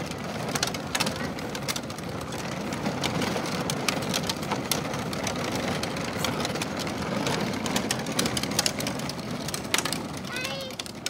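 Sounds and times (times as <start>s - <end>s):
plastic wheels on pavement: 0.0s - 11.0s
sharp clicks and rattles: 0.0s - 11.0s.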